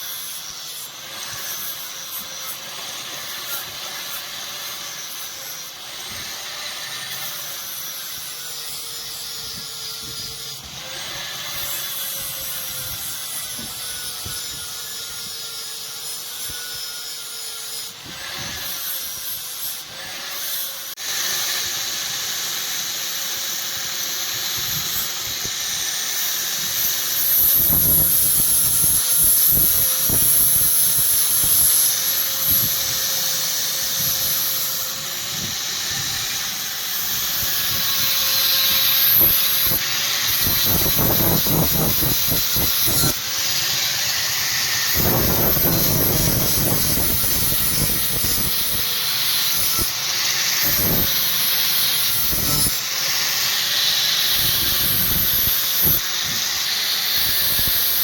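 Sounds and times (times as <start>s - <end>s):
grinder on steel blade: 0.0s - 58.0s.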